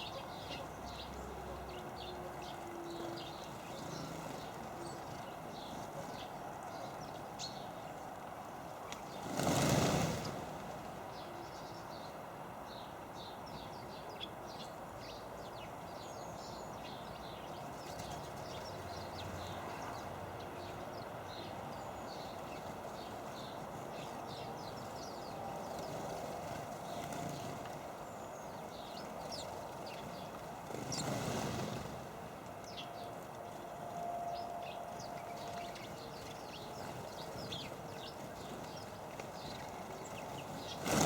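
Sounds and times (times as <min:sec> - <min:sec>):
small birds chirping: 0:00.0 - 0:10.5, 0:11.1 - 0:32.0, 0:32.6 - 0:33.7, 0:34.3 - 0:41.0.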